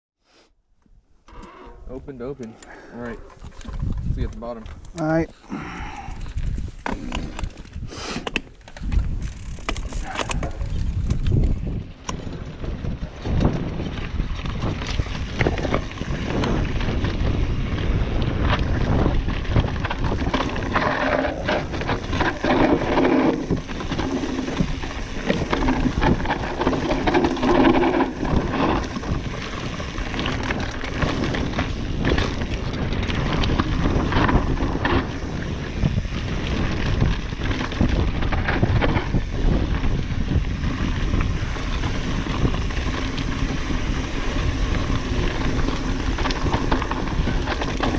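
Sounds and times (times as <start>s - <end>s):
bike tyres rolling over rock and gravel: 2.2s - 47.9s
wind buffeting microphone: 3.2s - 7.9s, 8.6s - 47.9s
bike chain and frame rattling: 3.4s - 7.9s, 8.5s - 47.9s.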